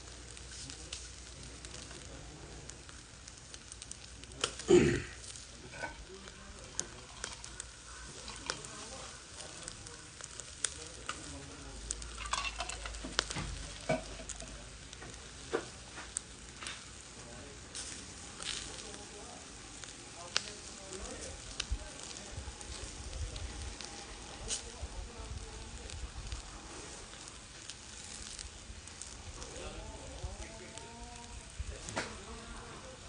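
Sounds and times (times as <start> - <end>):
chicken sizzling over charcoal: 0.0 - 33.0
sharp crackles and pops: 0.0 - 33.0.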